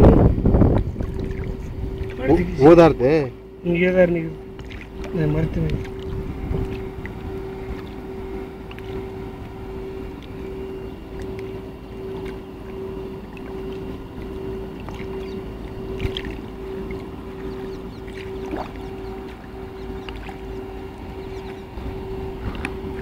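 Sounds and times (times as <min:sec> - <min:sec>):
low rumble: 0:00.0 - 0:23.0
motor drone: 0:00.0 - 0:23.0.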